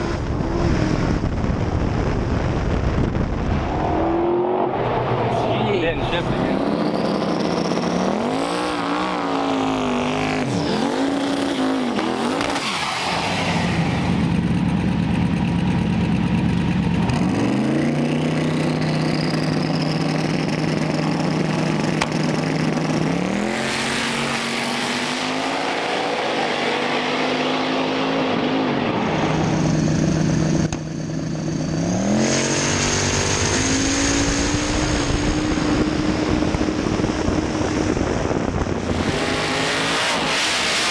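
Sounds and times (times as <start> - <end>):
drag car engine revving: 0.0 - 40.9.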